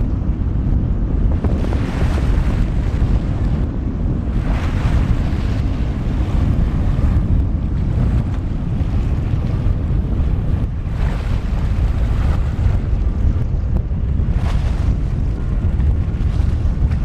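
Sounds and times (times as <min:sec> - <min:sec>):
choppy water: 0:00.0 - 0:17.0
wind buffeting microphone: 0:00.0 - 0:17.0.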